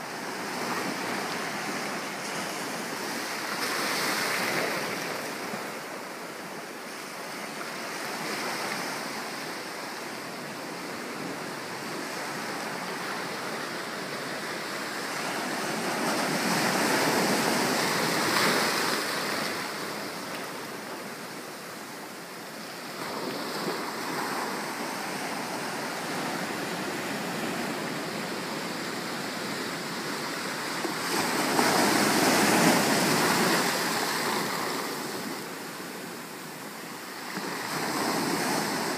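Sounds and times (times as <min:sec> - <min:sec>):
ocean surf breaking: 0:07.1 - 0:38.9.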